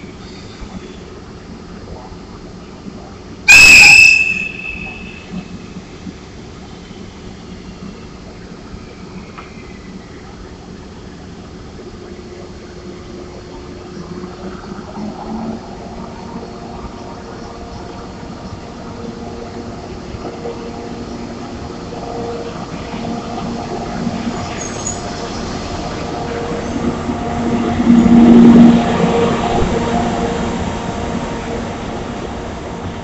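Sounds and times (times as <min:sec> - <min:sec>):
electric locomotive humming: 0:00.0 - 0:33.0.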